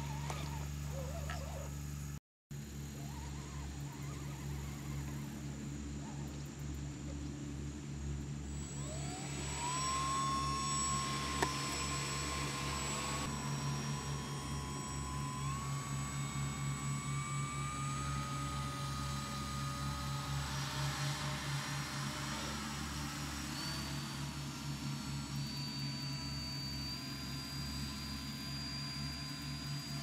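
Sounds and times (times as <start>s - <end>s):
electric motor and propeller whine: 0.0s - 30.0s.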